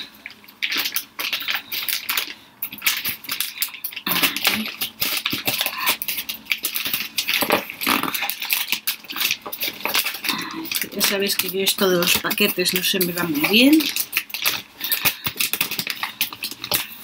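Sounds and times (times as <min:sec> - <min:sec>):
packaging rustling and crinkling: 0:00.0 - 0:17.0
small clicks and crackles: 0:00.0 - 0:17.0.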